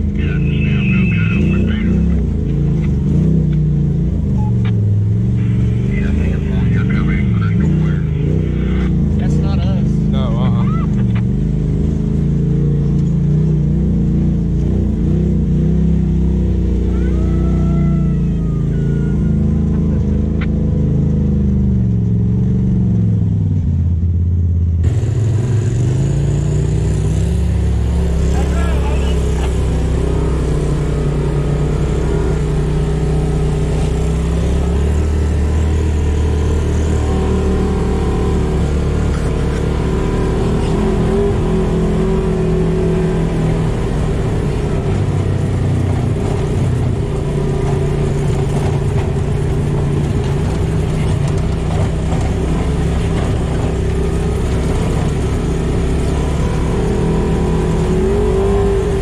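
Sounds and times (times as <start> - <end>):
side-by-side engine driving: 0.0 - 59.0.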